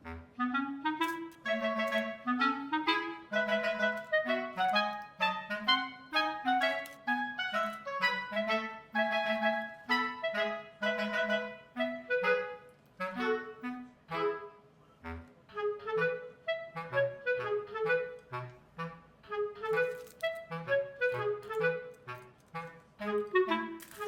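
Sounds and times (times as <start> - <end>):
woodwind playing bouncy melody: 0.0 - 24.0.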